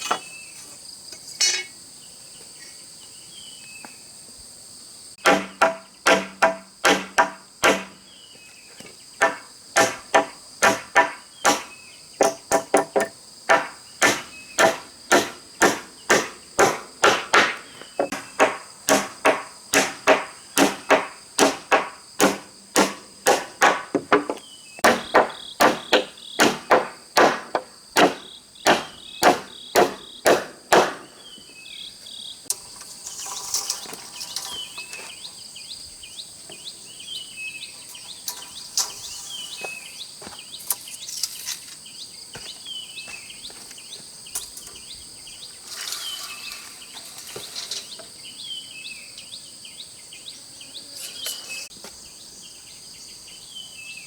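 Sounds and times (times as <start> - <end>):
chorus of crickets and insects: 0.0 - 54.0.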